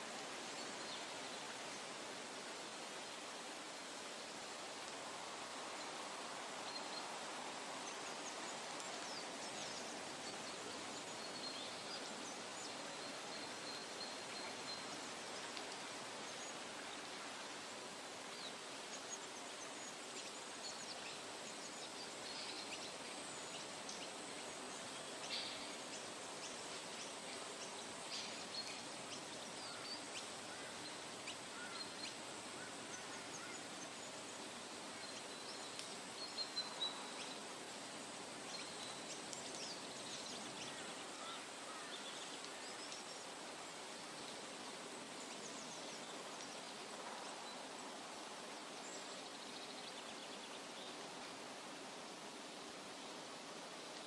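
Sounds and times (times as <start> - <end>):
steady rushing hiss: 0.0 - 54.0
small birds chirping: 6.6 - 51.4.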